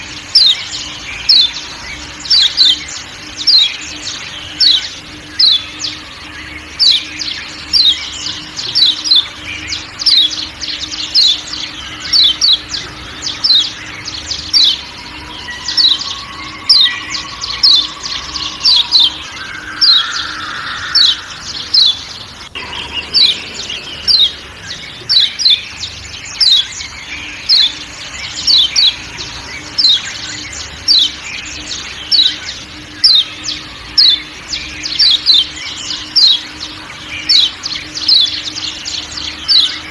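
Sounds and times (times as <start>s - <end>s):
bird giving sharp calls: 0.0s - 39.9s
forest background sounds: 0.0s - 39.9s
steady low hum: 0.0s - 39.9s.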